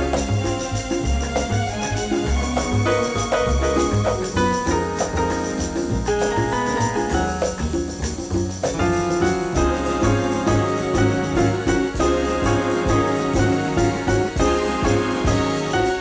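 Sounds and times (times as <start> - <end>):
upbeat background music: 0.0 - 16.0.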